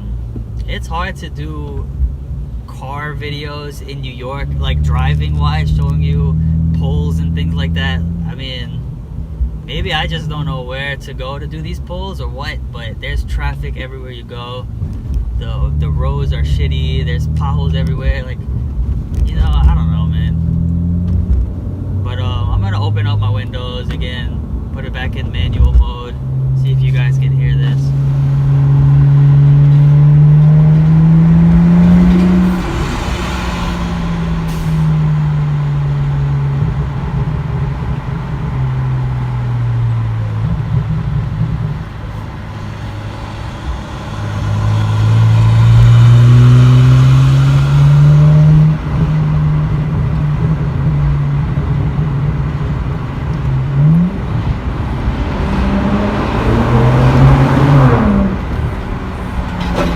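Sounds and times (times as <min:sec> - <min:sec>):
car exhaust accelerating: 0:00.0 - 0:59.9.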